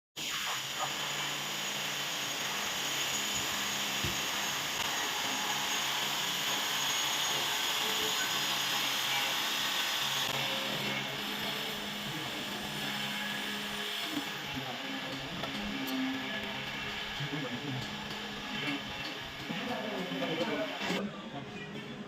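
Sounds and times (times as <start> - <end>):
steady machine whirr: 0.2 - 21.0.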